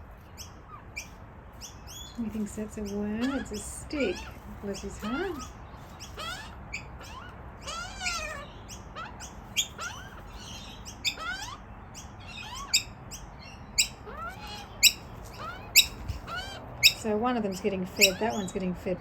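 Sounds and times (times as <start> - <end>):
young magpies squeaky begging calls: 0.4 - 19.0.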